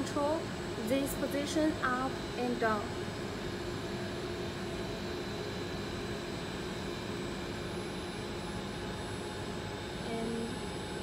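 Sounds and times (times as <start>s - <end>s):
faint constant tones: 0.0s - 11.0s
machine hum and whir: 0.0s - 11.0s.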